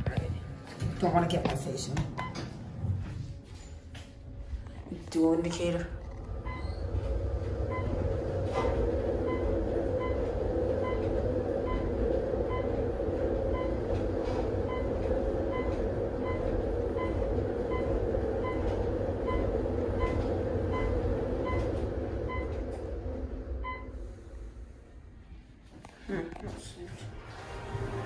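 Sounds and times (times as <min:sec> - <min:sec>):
elevator car rumble and hum: 0:00.0 - 0:28.0.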